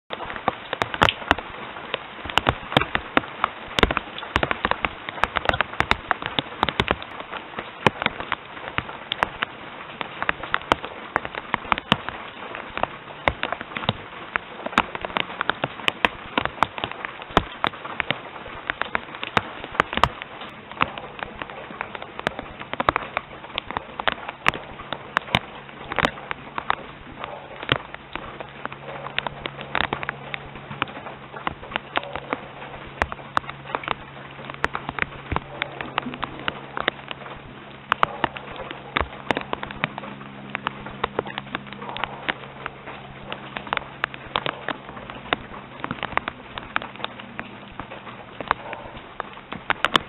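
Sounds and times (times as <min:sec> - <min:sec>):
hiss of rain: 0:00.1 - 0:50.0
raindrops tapping hard surface: 0:00.1 - 0:50.0.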